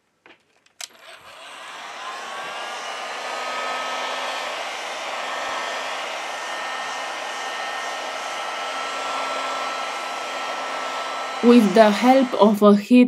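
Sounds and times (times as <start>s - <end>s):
heat gun motor whine: 0.8s - 12.5s.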